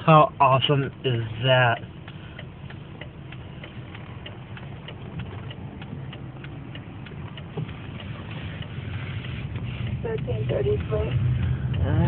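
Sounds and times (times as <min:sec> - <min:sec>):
car indicator ticking: 0:00.0 - 0:12.0
engine and road hum in cabin: 0:00.0 - 0:12.0.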